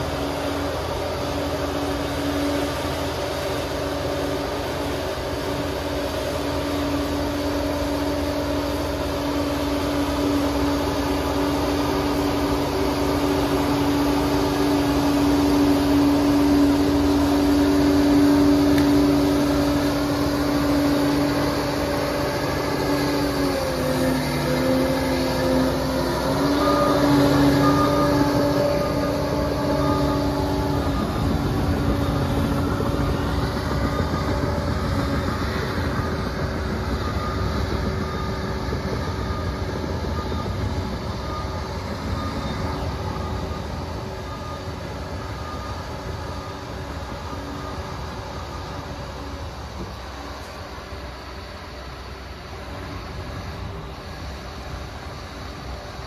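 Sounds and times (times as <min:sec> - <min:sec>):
track noise: 0:00.0 - 0:50.4
crawler dozer engine whine: 0:00.0 - 0:56.0.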